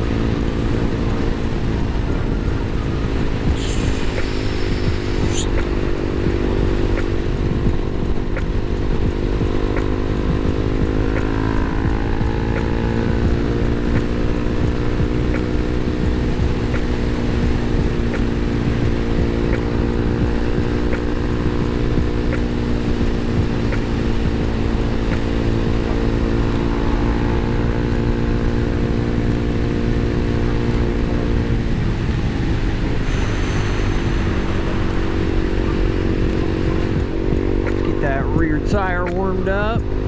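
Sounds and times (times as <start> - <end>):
low wind rumble: 0.0 - 40.0
motorcycle engine running: 0.0 - 40.0.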